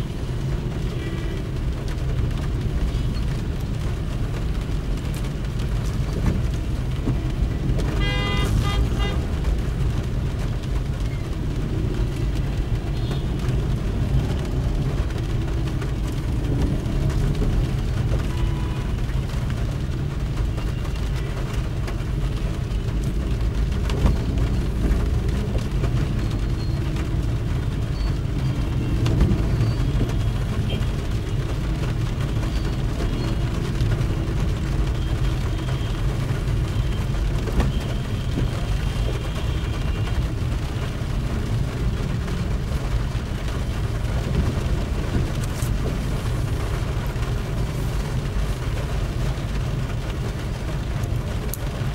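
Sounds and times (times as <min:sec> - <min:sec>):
car engine and road rumble: 0:00.0 - 0:51.9
tyres hissing on wet road: 0:00.0 - 0:51.9.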